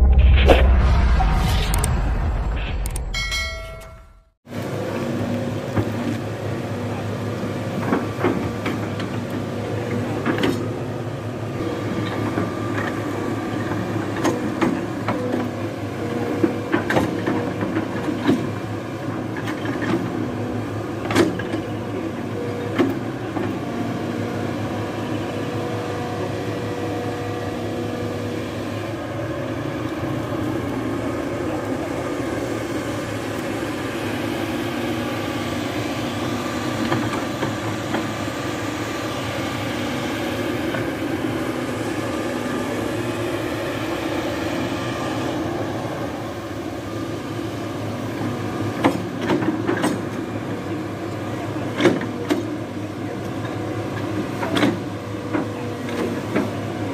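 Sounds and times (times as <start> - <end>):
excavator diesel engine running: 4.7 - 56.9.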